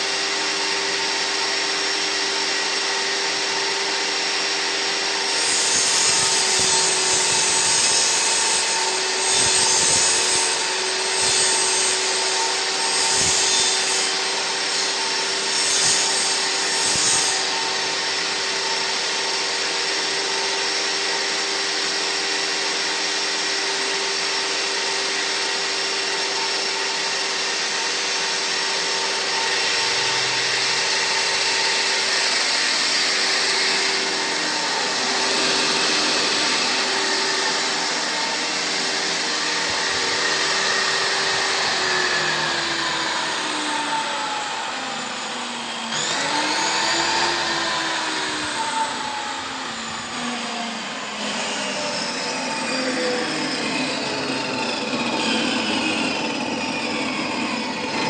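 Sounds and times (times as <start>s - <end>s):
saw blade cutting board: 0.0s - 58.0s
table saw motor humming: 0.0s - 58.0s.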